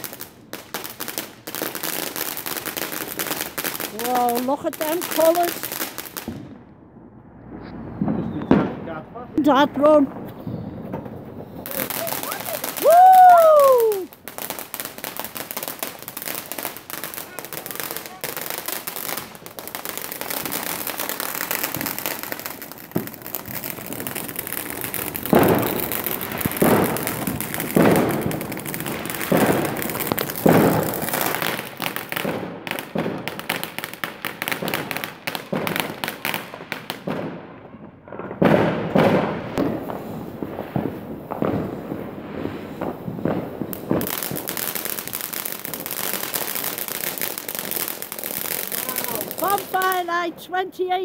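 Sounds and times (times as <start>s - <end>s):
fireworks bangs: 0.0s - 51.0s
fireworks crackling: 0.0s - 51.0s.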